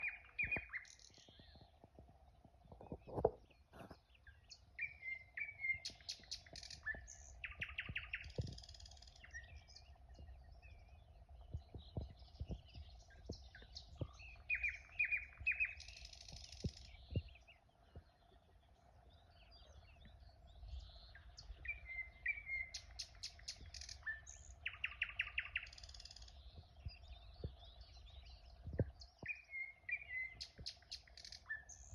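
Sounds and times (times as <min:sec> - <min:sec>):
songbirds chirping and trilling: 0:00.0 - 0:31.9.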